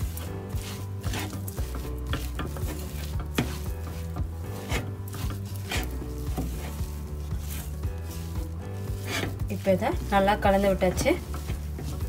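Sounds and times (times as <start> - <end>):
spatula scraping a steel pan: 0.0 - 12.0.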